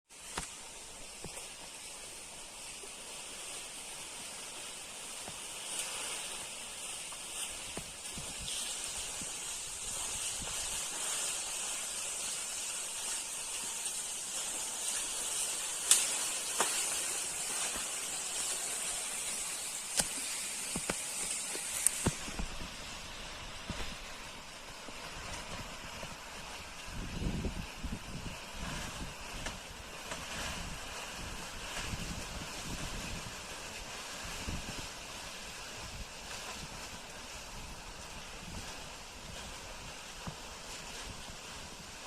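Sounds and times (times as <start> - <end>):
insects droning: 0.2 - 40.7.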